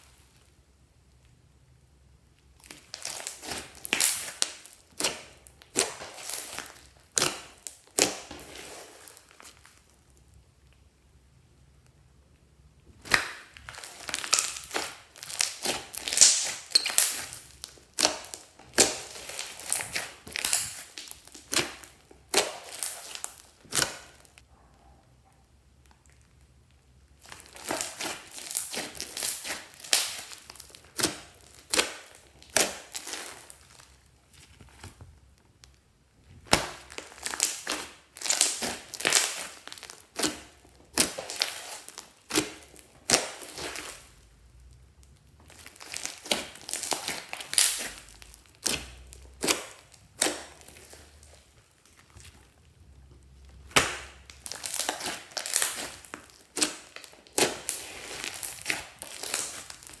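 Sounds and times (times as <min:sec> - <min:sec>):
crunchy slime crackling: 0:02.4 - 0:10.8, 0:12.8 - 0:24.4, 0:25.8 - 1:00.0.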